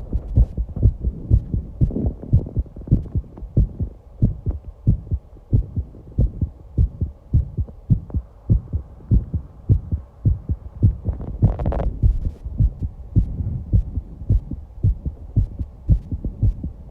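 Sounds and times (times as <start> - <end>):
fast heartbeat thumps: 0.0 - 16.9.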